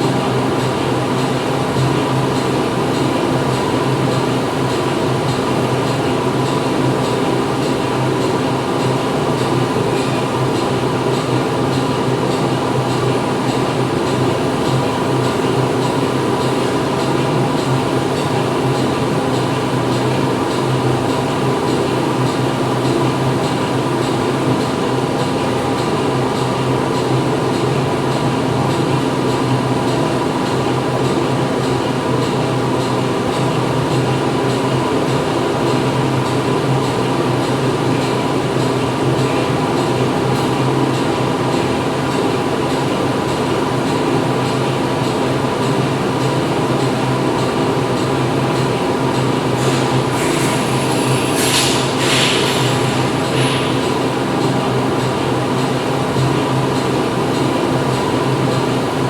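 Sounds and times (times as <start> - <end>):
factory machinery running: 0.0 - 59.0.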